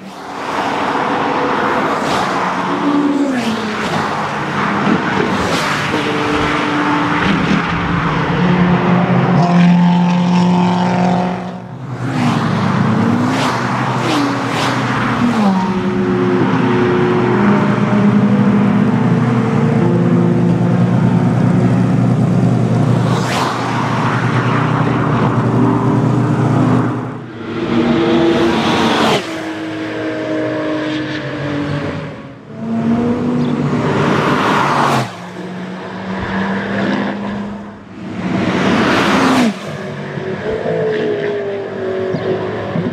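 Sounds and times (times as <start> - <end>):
race cars passing at speed: 0.0 - 42.9.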